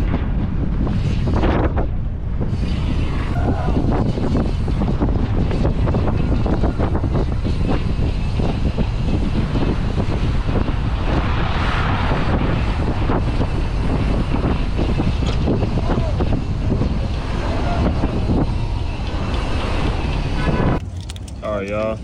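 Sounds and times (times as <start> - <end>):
road traffic: 0.0 - 22.0
wind noise on microphone: 0.0 - 22.0.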